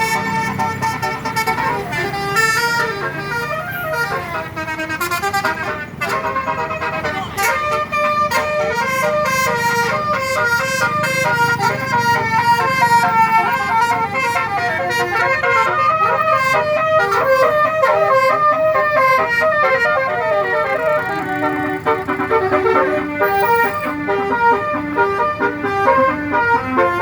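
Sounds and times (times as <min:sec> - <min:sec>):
bus horns playing melody: 0:00.0 - 0:27.0.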